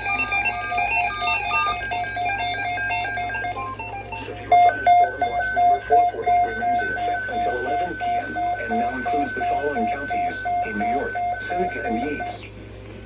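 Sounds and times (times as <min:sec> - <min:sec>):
synthesizer music: 0:00.0 - 0:11.8
electronic alarm beeping: 0:00.0 - 0:12.5.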